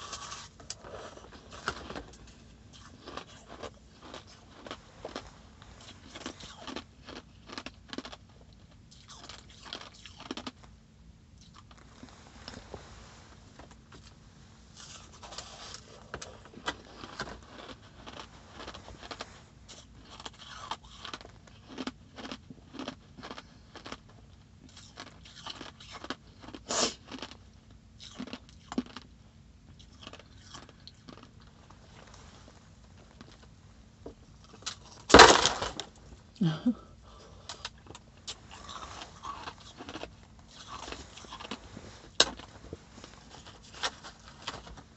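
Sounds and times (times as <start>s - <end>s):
crushed ice being chewed: 0.0s - 10.8s, 11.4s - 12.8s, 13.5s - 36.5s, 37.1s - 44.9s.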